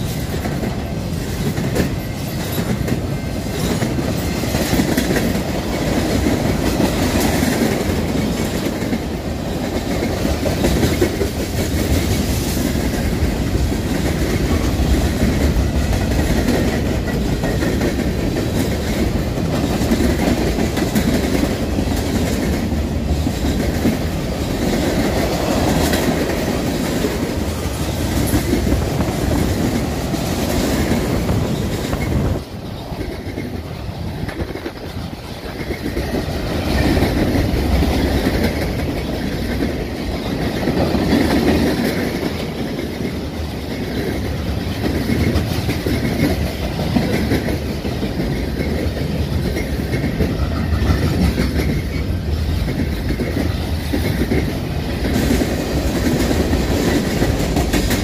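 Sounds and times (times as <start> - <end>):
freight train cars rumbling: 0.0 - 58.0
wheels clacking over rail joints: 0.0 - 58.0.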